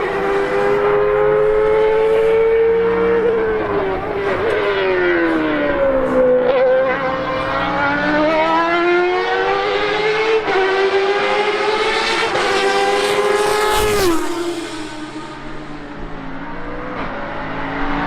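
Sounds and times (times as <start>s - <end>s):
racing car engine passing by: 0.0s - 18.0s.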